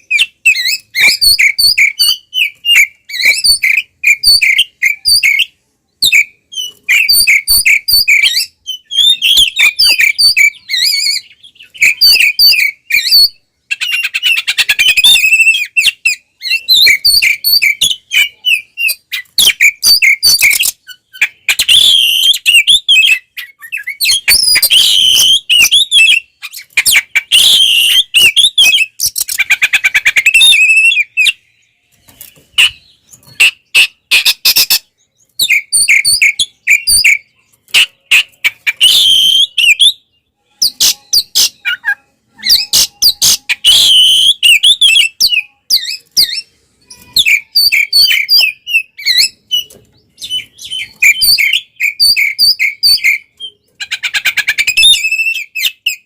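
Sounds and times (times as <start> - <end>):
bird singing aggressively: 0.0 - 56.0.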